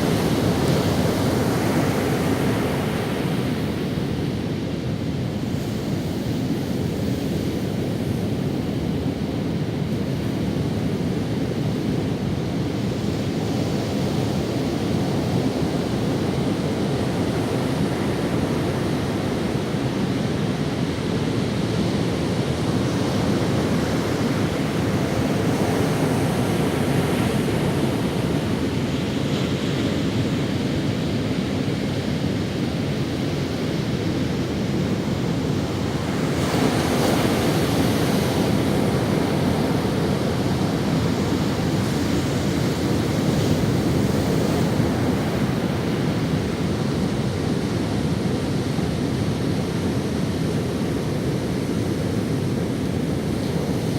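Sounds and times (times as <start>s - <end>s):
ocean waves on sandy beach: 0.0s - 53.9s
wind on microphone: 0.0s - 53.9s.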